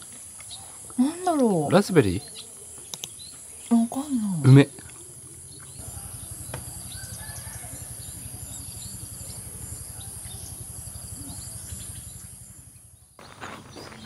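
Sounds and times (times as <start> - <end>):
bird chirps and trills: 0.4 - 14.0.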